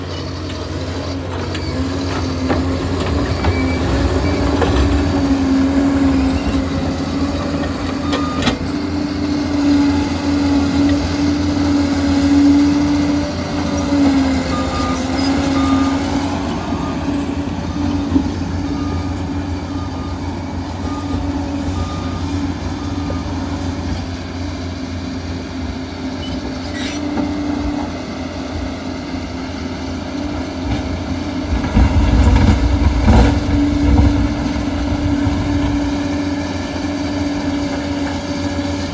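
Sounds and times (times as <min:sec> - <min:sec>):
bulldozer diesel engine rumbling: 0:00.0 - 0:38.9.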